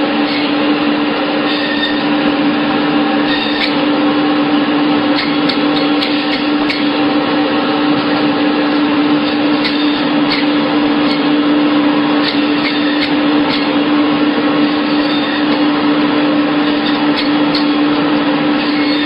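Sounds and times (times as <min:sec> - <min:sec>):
machine hum and whirr: 0:00.0 - 0:19.0.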